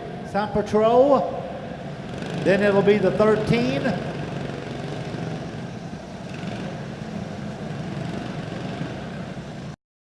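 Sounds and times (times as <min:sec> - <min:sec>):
kart engines droning: 0:00.0 - 0:09.8.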